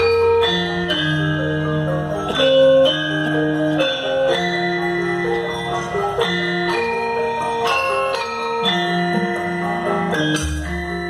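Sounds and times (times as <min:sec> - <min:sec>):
gamelan metallophones playing: 0:00.0 - 0:11.0.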